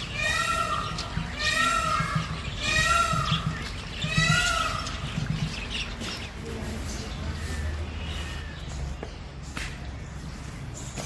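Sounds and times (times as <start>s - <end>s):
bird nasal calls: 0.0s - 9.0s.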